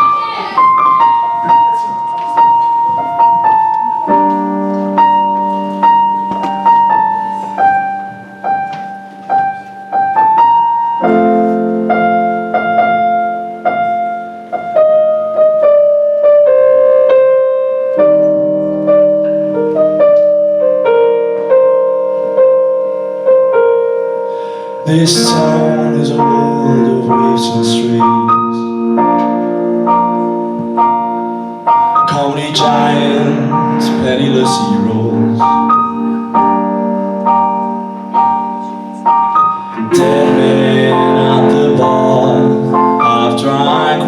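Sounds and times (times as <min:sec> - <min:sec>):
solo piano chords and notes: 0:00.0 - 0:44.0.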